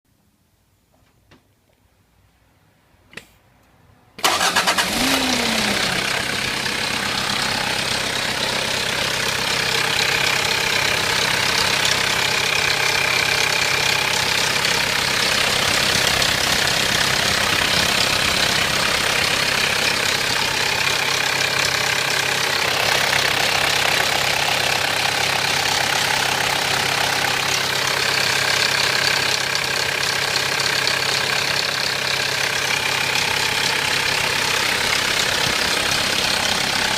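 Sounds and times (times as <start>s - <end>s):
diesel engine cranking and idling: 4.2s - 36.9s
engine rattle: 4.2s - 36.9s.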